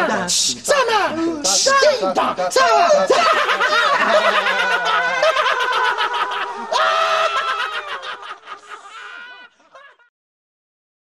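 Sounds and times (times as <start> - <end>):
high-pitched voices cackling: 0.0 - 9.8.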